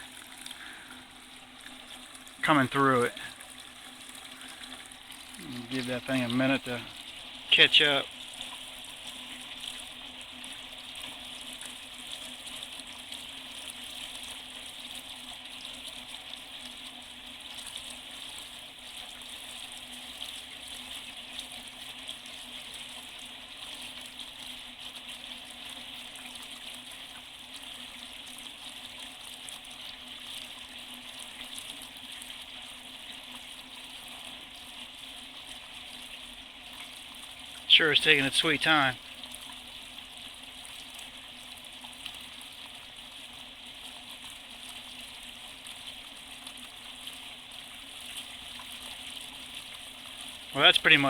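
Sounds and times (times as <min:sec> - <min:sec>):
water running through a tank: 0:00.0 - 0:51.0.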